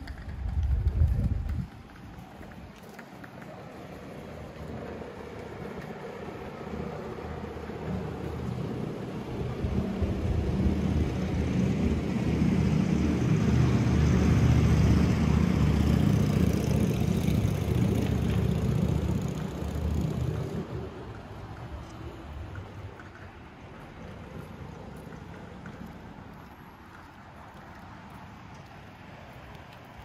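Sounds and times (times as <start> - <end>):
vehicle passing rumble: 0.0 - 30.0.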